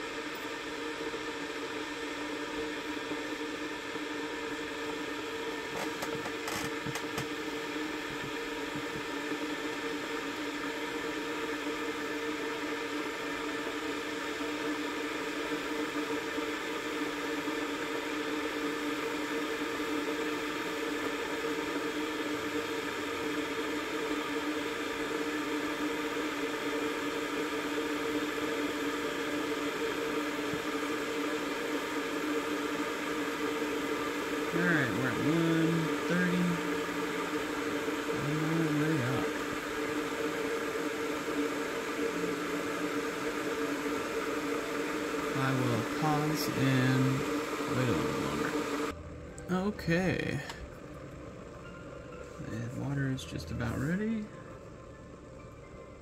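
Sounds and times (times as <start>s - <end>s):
kettle heating water: 0.0s - 56.0s.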